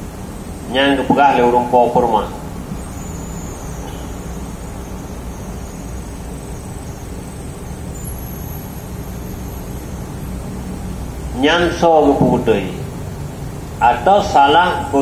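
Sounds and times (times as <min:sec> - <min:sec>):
low hum and rumble: 0:00.0 - 0:15.0.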